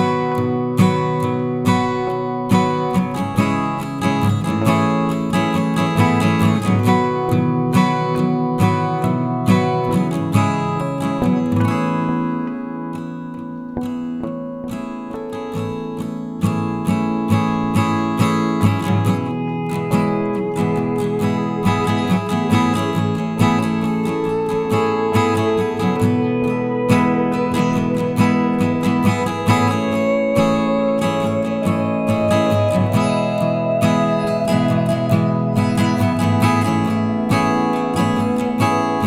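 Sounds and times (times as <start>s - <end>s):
strummed acoustic guitar: 0.0s - 39.0s.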